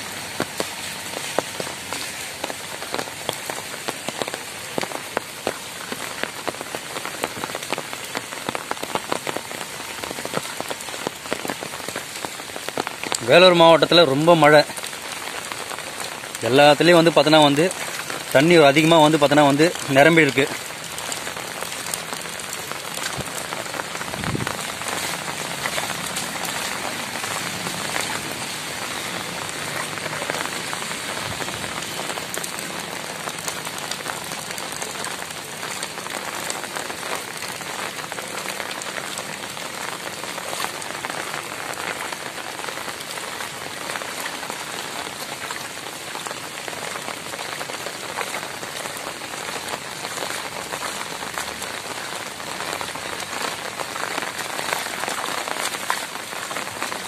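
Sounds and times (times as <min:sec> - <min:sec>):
heavy rain on wet road: 0:00.0 - 0:57.0.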